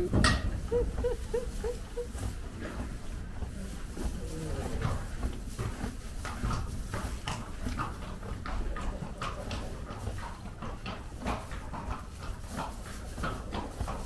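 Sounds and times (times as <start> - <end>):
horse crunching feed: 0.0 - 14.0.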